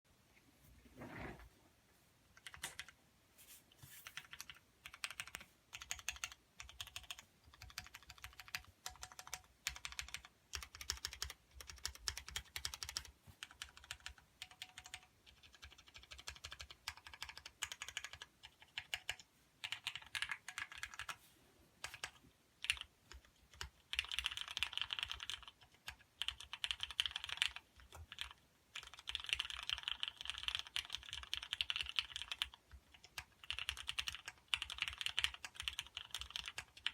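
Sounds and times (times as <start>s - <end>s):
mechanical keyboard typing: 2.4s - 3.0s, 4.1s - 21.2s, 21.8s - 36.9s.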